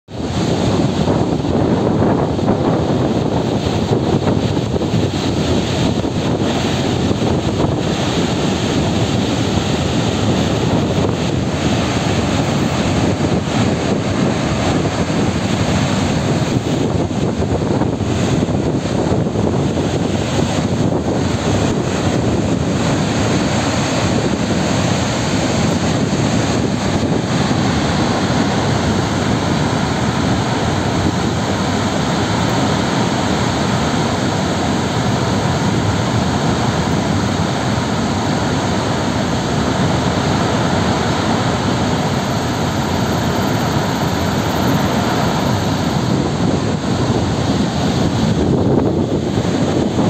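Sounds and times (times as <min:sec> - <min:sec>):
water rushing down a spillway: 0:00.1 - 0:50.0.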